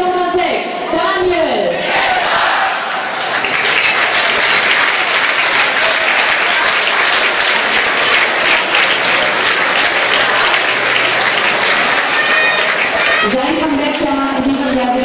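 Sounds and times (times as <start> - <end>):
crowd applauding: 2.6 - 14.8.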